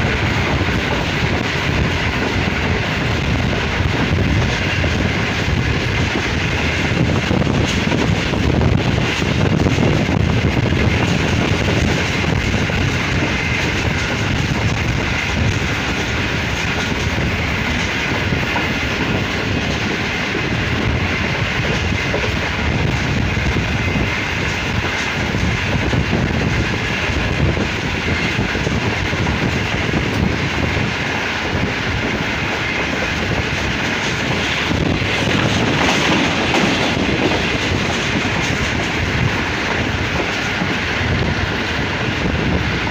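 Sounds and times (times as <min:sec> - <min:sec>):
clickety-clack of rail joints: 0:00.0 - 0:42.9
rushing air: 0:00.0 - 0:42.9
train wheels rumbling on rails: 0:00.0 - 0:42.9.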